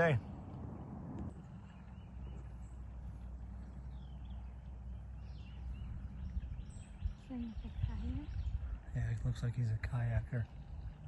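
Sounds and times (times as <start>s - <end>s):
birds chirping: 0.0s - 11.0s
low rumble: 0.0s - 11.0s.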